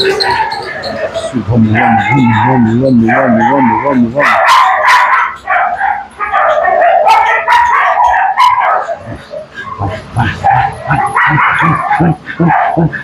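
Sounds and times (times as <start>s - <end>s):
dog yelping and whining: 0.0s - 12.8s.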